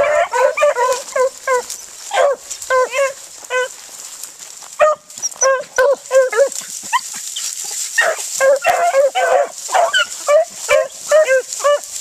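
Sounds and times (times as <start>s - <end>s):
dogs barking and yelping: 0.0s - 3.7s, 4.8s - 12.0s.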